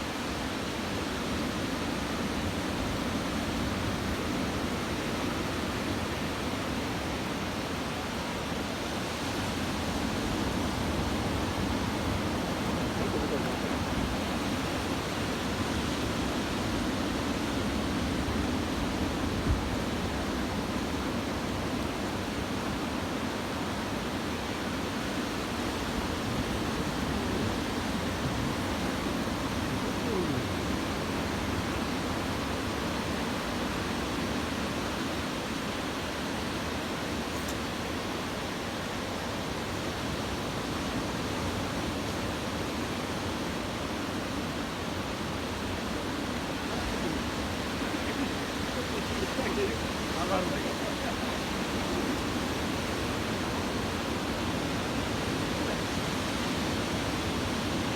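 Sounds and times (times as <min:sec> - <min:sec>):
ocean surf rushing: 0:09.1 - 0:39.1, 0:40.9 - 0:57.9.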